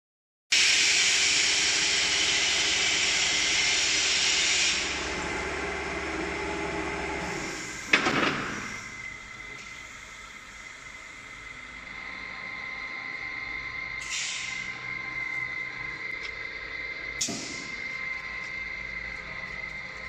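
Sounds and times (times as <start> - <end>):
factory machine hiss and hum: 0.5 - 20.0.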